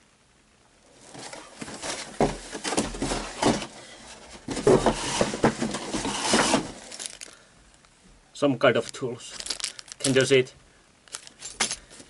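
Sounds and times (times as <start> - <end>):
plastic bag rustling: 0.8 - 7.5, 8.7 - 12.0.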